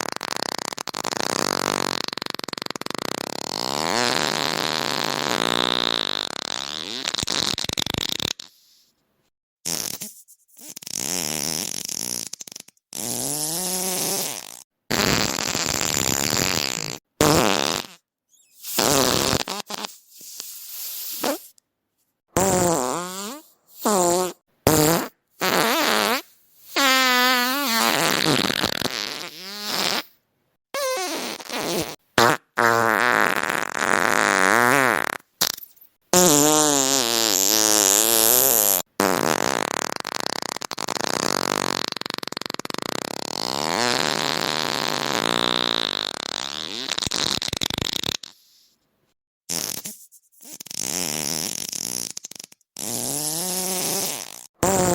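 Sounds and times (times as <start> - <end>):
farts: 0.0 - 8.8, 9.6 - 21.6, 22.4 - 30.2, 30.8 - 48.8, 49.5 - 54.9.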